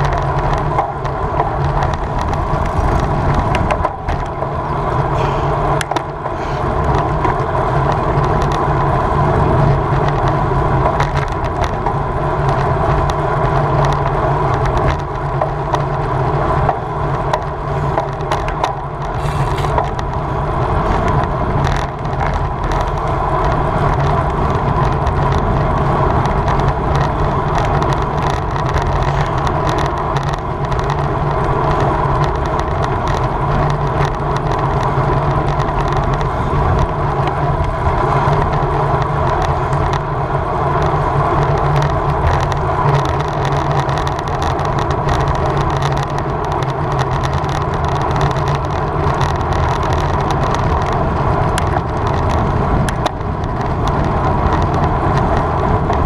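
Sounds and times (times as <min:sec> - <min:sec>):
bicycle tyre and road noise: 0:00.0 - 0:56.0
wind rushing over microphone: 0:00.0 - 0:56.0.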